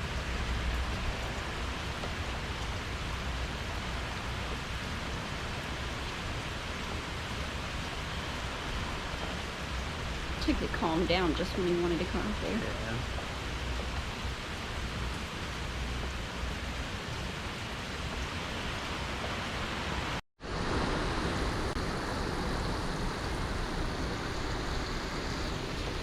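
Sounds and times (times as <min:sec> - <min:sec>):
wind and rain rushing: 0:00.0 - 0:26.0.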